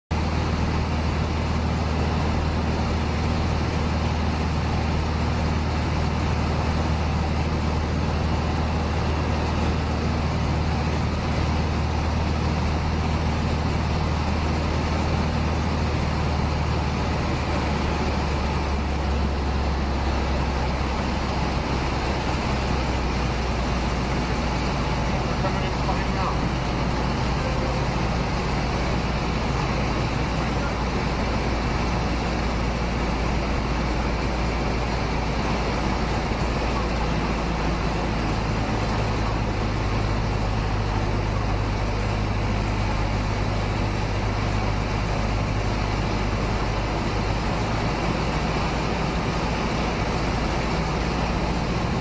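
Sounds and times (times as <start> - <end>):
airplane engine and propeller droning: 0.1 - 52.0.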